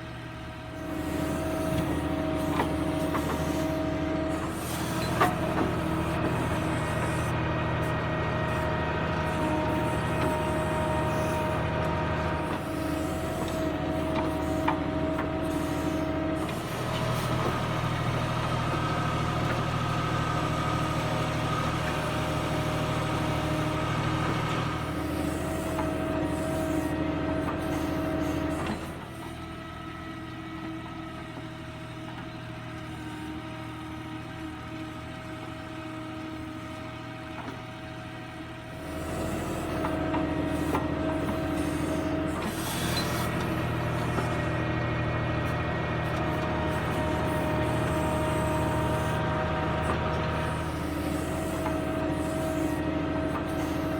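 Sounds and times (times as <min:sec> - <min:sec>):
tractor engine under load: 0:00.0 - 0:29.4, 0:34.0 - 0:53.9.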